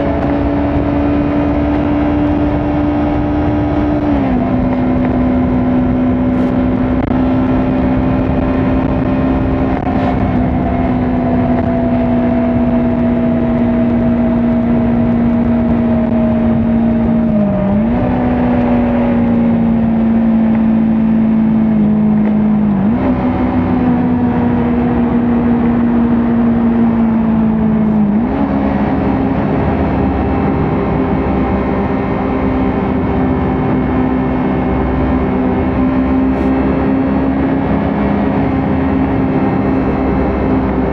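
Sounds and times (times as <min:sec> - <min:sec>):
motorcycle engine running: 0:00.0 - 0:40.9
road noise: 0:00.0 - 0:40.9
wind rush: 0:00.0 - 0:40.9.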